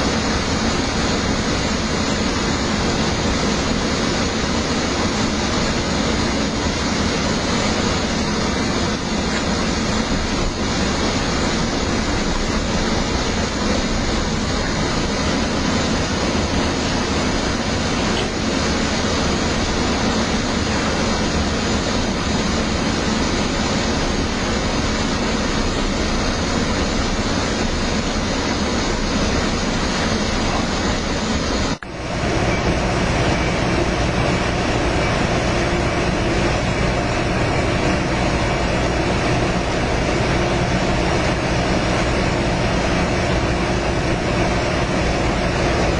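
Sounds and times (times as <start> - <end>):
train rumble inside car: 0.0 - 37.0.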